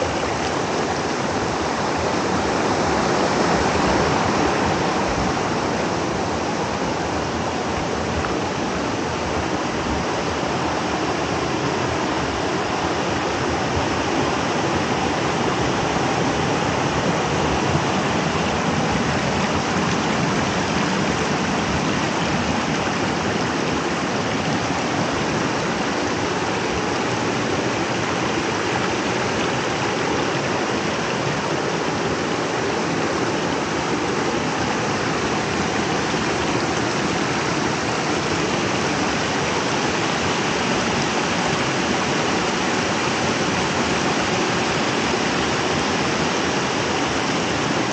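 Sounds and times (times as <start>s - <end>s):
creek water rushing over rocks: 0.0s - 47.9s.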